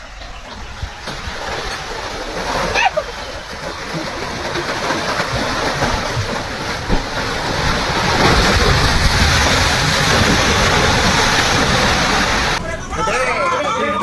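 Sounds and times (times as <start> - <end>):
waves and churning water: 0.0 - 14.0.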